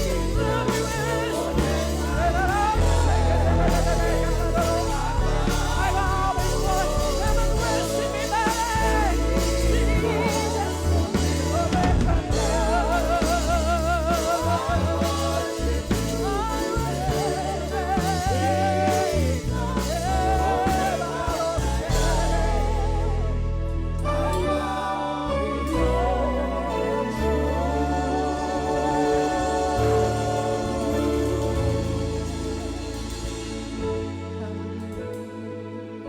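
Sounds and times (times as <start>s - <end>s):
band with strong bass: 0.0s - 36.0s.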